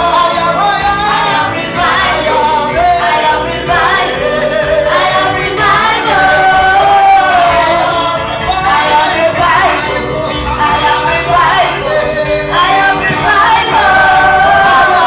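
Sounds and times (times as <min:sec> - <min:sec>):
group singing gospel: 0:00.0 - 0:15.0
instrumental accompaniment: 0:00.0 - 0:15.0.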